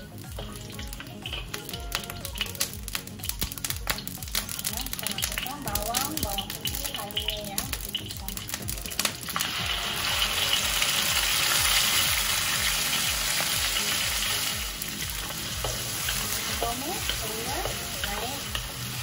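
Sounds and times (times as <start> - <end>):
spice paste sizzling in hot oil: 0.0 - 19.0.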